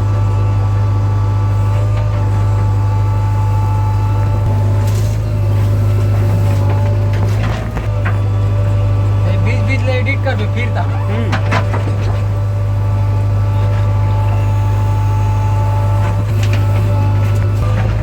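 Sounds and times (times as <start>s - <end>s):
diesel engine running: 0.0s - 18.0s
whining tones: 0.0s - 18.0s.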